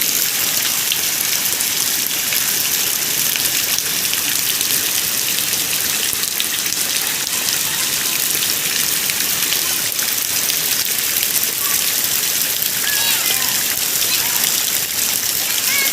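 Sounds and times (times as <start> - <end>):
heavy rain: 0.0 - 15.9.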